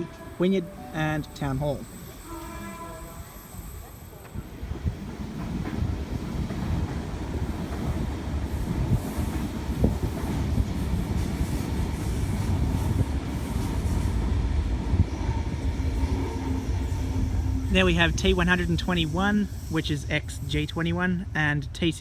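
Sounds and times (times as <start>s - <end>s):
train wheels rumbling on rails: 1.7s - 22.0s.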